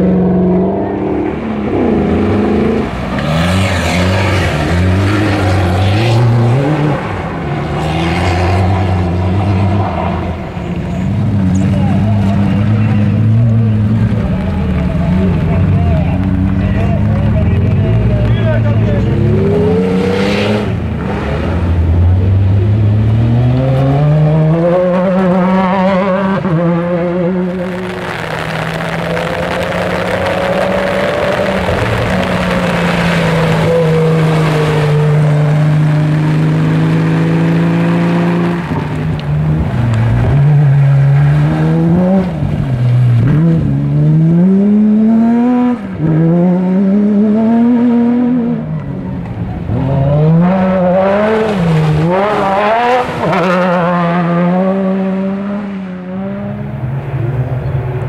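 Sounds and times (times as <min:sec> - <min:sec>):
race car engines revving hard: 0:00.0 - 0:58.0.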